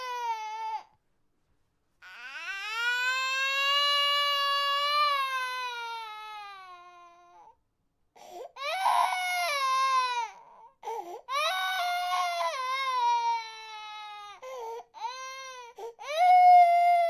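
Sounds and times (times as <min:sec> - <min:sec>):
baby crying: 0:00.0 - 0:00.9, 0:02.0 - 0:07.5, 0:08.2 - 0:17.0.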